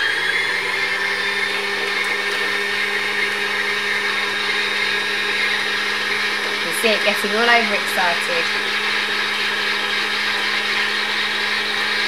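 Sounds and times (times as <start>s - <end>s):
sewing machine motor whine: 0.0s - 12.0s.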